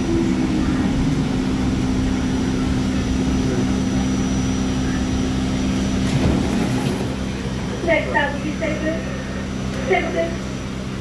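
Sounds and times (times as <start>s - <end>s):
subway car rumbling: 0.0s - 11.0s.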